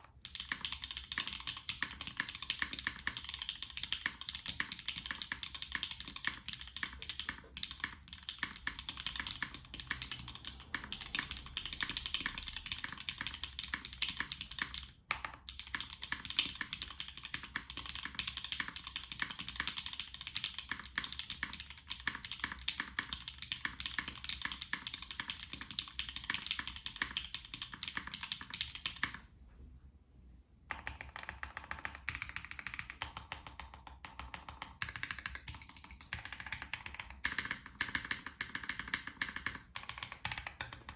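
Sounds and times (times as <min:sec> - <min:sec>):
fast mechanical keyboard typing: 0:00.0 - 0:29.2, 0:30.7 - 0:40.9.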